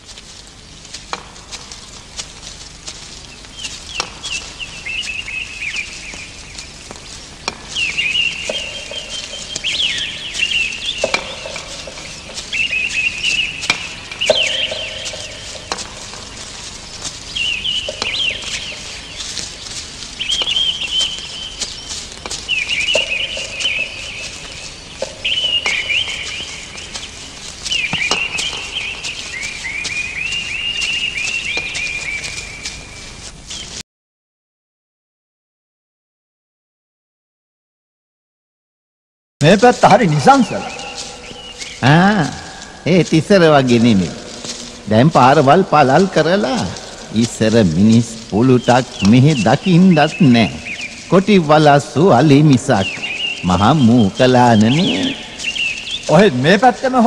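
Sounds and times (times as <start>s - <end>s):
birds warbling calls: 0.0s - 33.8s, 39.4s - 57.0s
low steady bird note: 0.6s - 33.8s, 39.4s - 57.0s.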